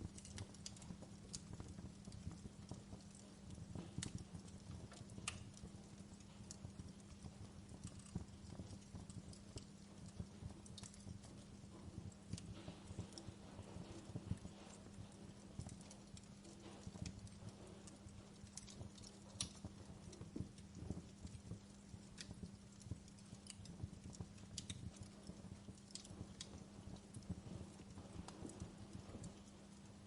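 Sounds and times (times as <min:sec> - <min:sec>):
flames noise: 0:00.0 - 0:30.0
wood fire crackling: 0:00.0 - 0:30.0.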